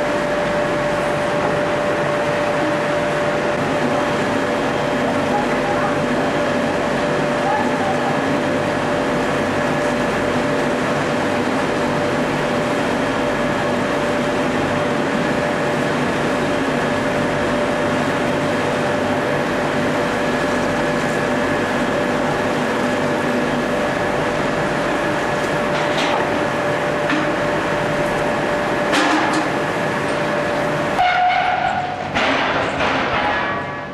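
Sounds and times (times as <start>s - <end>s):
ring rolling machine humming: 0.0s - 33.9s.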